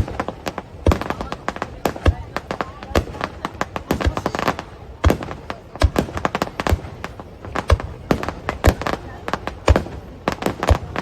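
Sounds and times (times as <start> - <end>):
firework booms: 0.0 - 11.0
firework cracks and crackles: 0.0 - 11.0.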